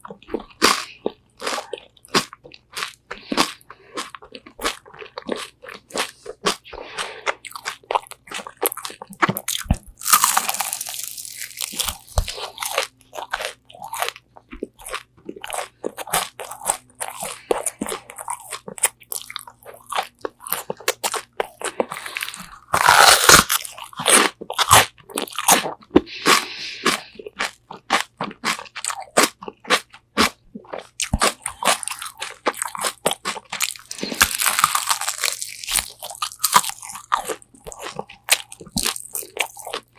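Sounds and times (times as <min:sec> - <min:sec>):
chewing: 0:00.0 - 0:39.9
crunching bites of fried chicken: 0:00.1 - 0:39.9.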